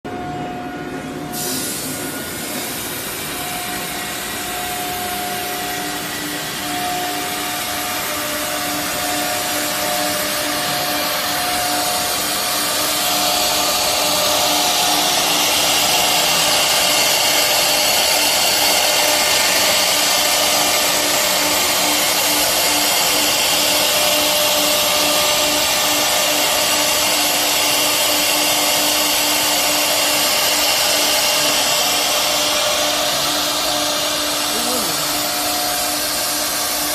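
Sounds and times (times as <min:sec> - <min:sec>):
cnc router machine noise: 0:00.1 - 0:36.9.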